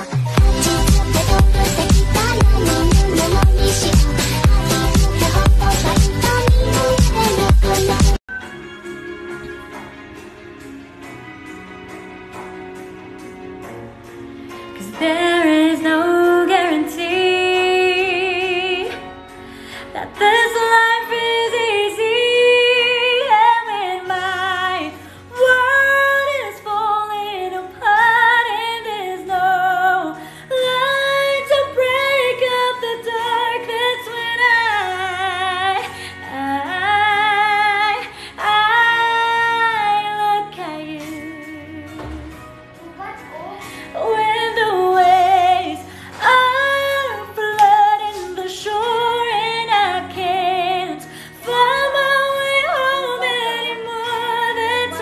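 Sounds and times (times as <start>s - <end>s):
woman singing with vibrato: 0.0s - 8.2s, 14.8s - 19.2s, 19.9s - 42.4s, 43.9s - 55.0s
soft background music: 0.0s - 55.0s.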